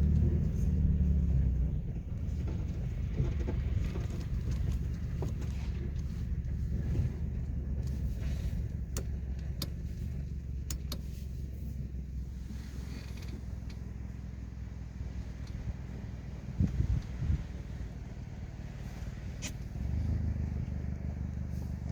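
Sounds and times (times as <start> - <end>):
car driving rumble: 0.0 - 21.9.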